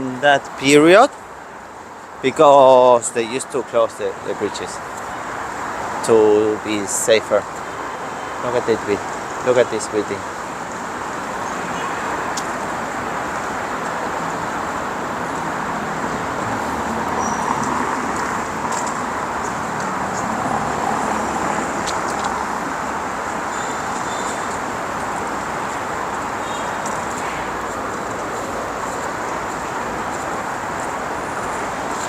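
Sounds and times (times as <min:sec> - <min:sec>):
city rushing noise: 0:00.0 - 0:32.0.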